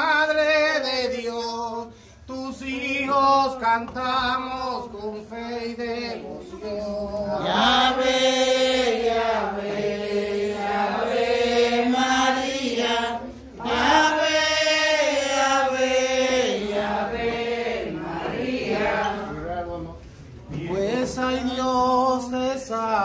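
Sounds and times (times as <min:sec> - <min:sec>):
voices singing a hymn: 0:00.0 - 0:23.0.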